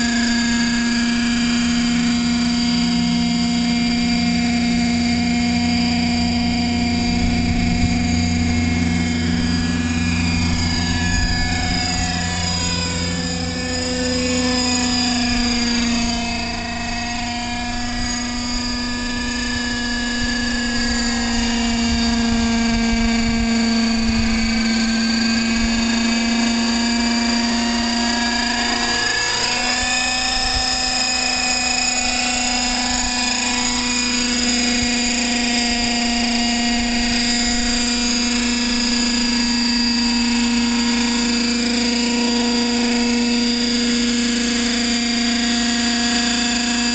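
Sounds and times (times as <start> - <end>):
radio-controlled helicopter whine: 0.0 - 46.9.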